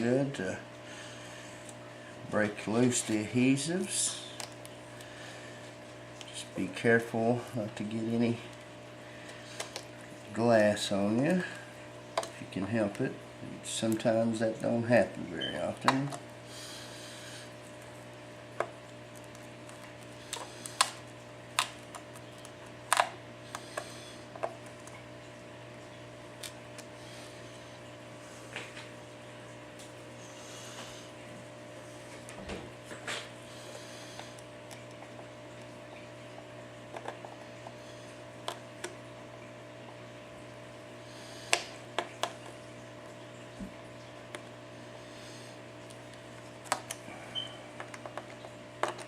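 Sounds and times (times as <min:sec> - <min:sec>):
steady electrical hum: 0:00.0 - 0:49.0.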